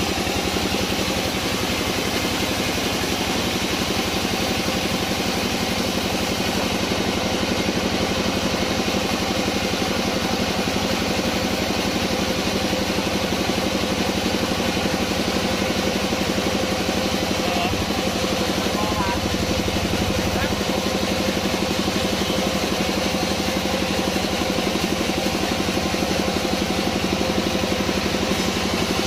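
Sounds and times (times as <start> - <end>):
sawmill machinery running: 0.0 - 29.0.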